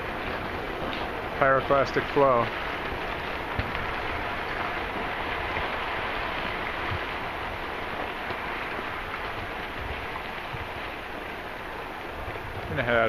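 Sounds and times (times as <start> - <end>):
rushing hiss of tumbling rock: 0.0 - 13.0.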